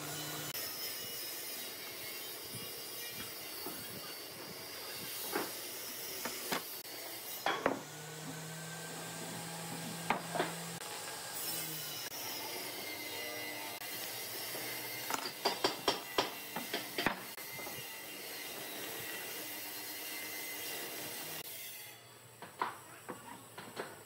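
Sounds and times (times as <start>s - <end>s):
steady workshop hiss: 0.0s - 24.0s.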